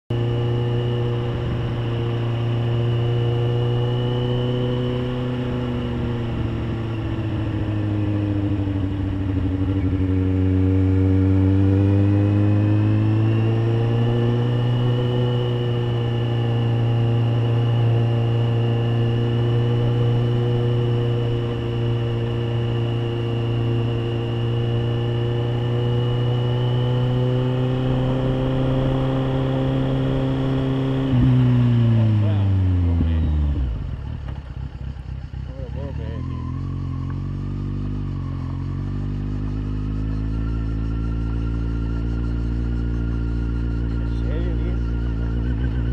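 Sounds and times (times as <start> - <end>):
motorcycle engine running: 0.1 - 45.9.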